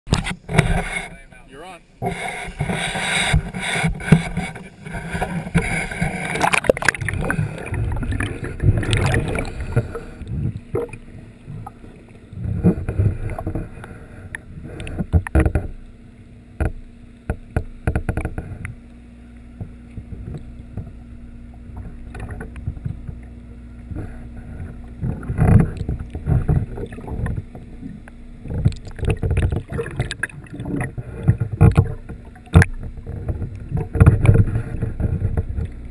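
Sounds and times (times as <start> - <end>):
steady low hum: 0.1 - 35.9
underwater sloshing: 0.1 - 35.9.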